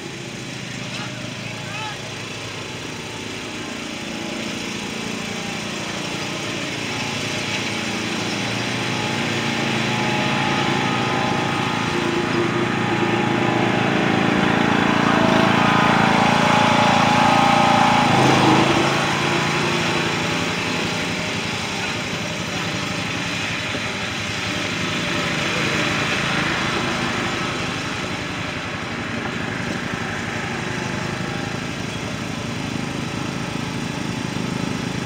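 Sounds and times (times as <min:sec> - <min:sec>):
riding lawn mower engine: 0:00.0 - 0:35.0.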